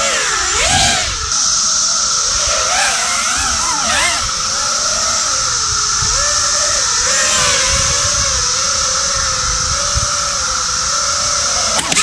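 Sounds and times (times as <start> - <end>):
cicadas chorus: 0.0 - 12.0
drone motors whining: 0.0 - 12.0.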